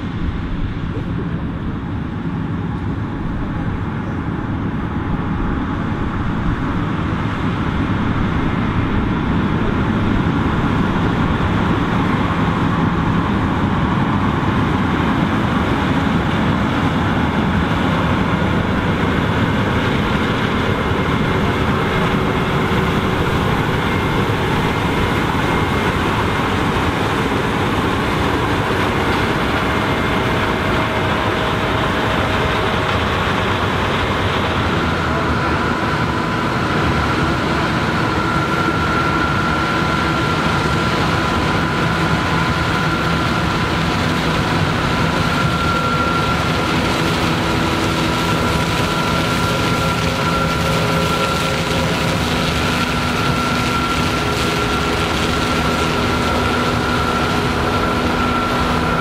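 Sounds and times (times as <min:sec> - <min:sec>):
combine harvester engine and machinery: 0:00.0 - 0:59.0
faint steady whine: 0:00.0 - 0:59.0.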